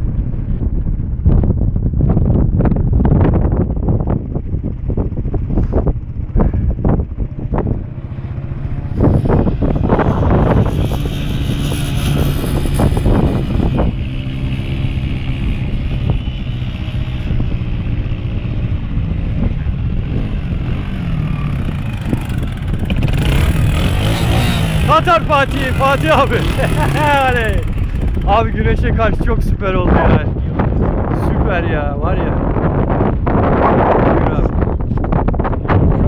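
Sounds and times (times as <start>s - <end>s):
quad bike engine running: 0.0s - 31.2s
wind gusting on microphone: 0.0s - 36.0s.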